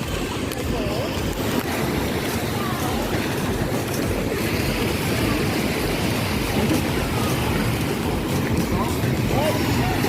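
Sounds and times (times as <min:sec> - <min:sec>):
faint crowd voices: 0:00.0 - 0:10.0
surf: 0:00.0 - 0:10.0
wind on microphone: 0:00.0 - 0:10.0.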